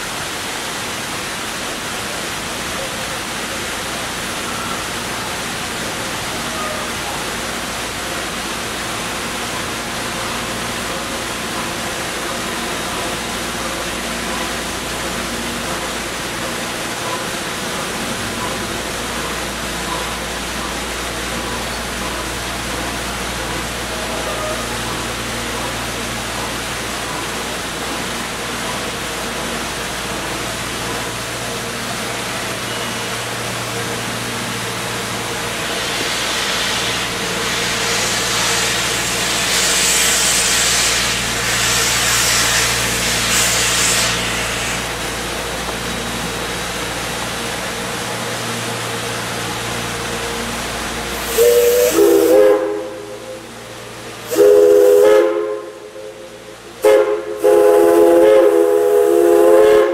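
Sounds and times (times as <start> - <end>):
waterfall and river rushing: 0.0 - 51.4
faint low train hum: 0.0 - 59.9.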